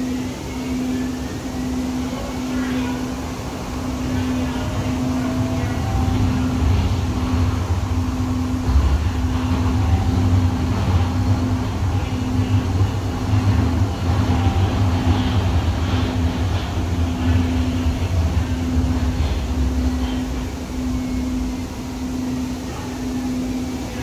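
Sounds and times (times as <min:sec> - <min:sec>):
low hum: 0:00.0 - 0:24.0
rail car wheels rumbling: 0:00.0 - 0:24.0.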